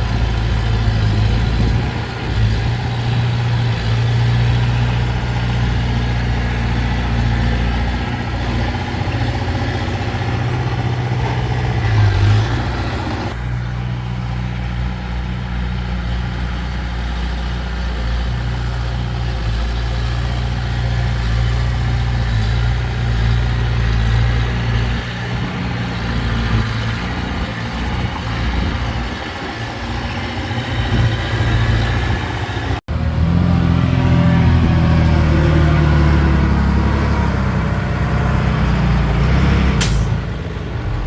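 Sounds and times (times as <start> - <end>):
heavy diesel engines running: 0.0 - 41.0.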